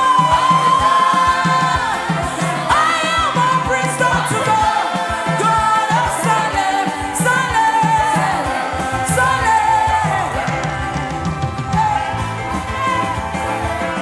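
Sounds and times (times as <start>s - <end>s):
band with steady beat: 0.0s - 14.0s
person singing: 0.0s - 14.0s.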